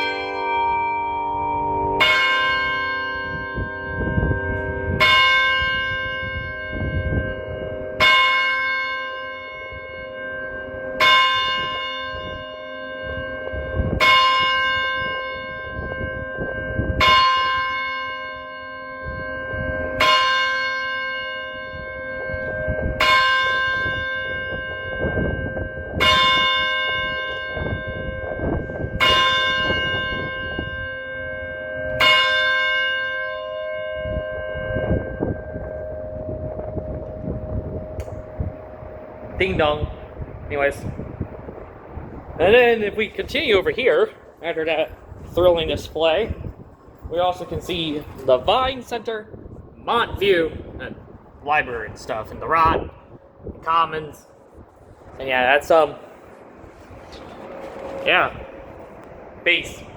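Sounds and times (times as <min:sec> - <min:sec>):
tower bell tolling: 0:00.0 - 0:59.9.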